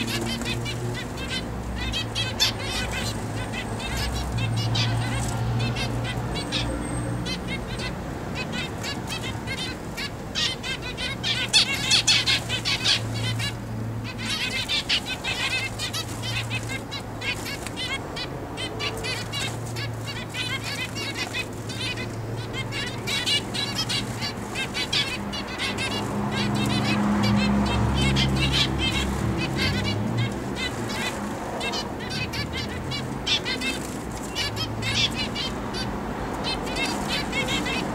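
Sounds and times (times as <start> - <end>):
finches chirping: 0.0 - 37.9.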